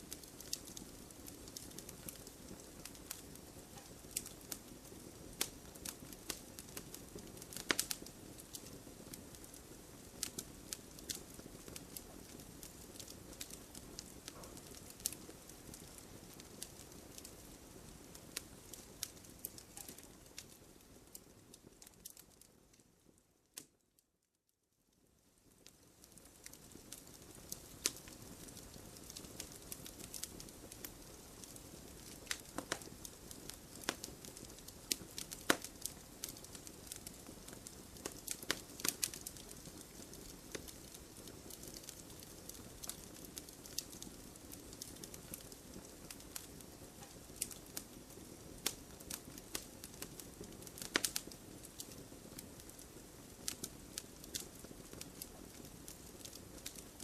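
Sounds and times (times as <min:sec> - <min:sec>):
wood fire crackling: 0:00.0 - 0:24.0, 0:24.9 - 0:57.0.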